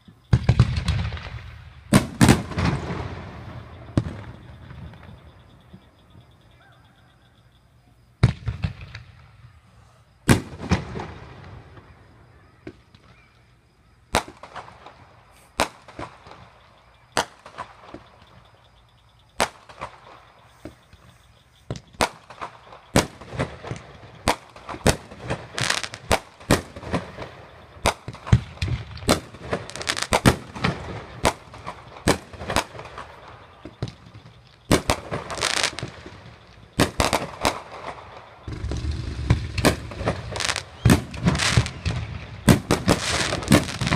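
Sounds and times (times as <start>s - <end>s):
fireworks crackling: 0.0s - 5.8s, 8.2s - 13.3s, 14.1s - 18.5s, 19.3s - 43.9s
fireworks bangs: 0.0s - 6.4s, 8.1s - 13.5s, 14.1s - 18.6s, 19.3s - 43.9s.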